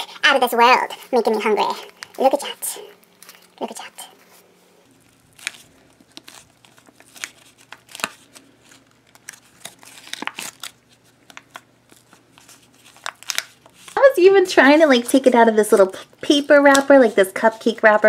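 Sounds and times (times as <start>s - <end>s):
paper wrapper crinkling: 1.2s - 18.0s.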